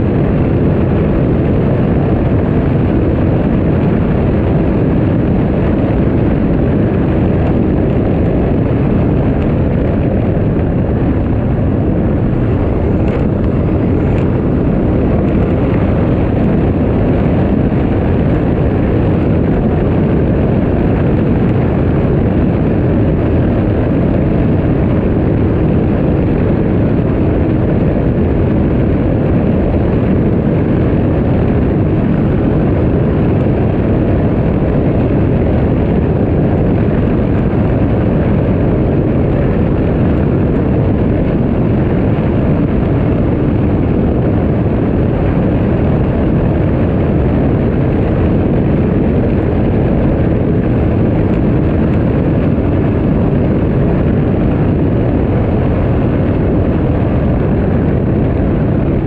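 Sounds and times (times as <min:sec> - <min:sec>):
jet ski engine roar: 0:00.0 - 0:59.0.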